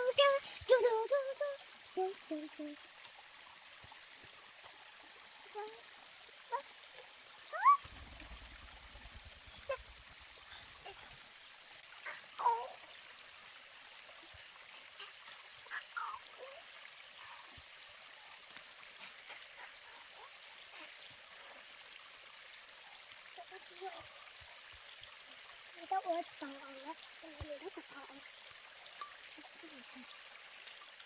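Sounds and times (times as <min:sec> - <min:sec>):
trickle of running water: 0:00.0 - 0:31.0.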